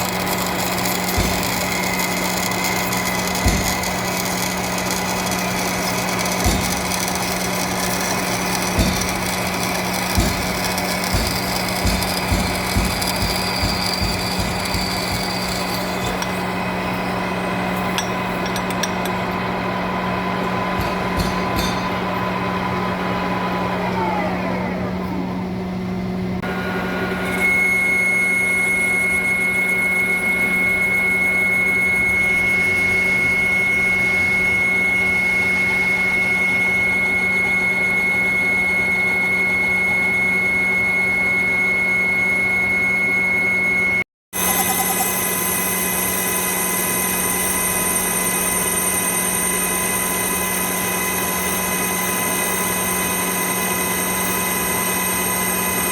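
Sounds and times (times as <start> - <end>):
machine tool motor humming and whining: 0.0 - 55.9.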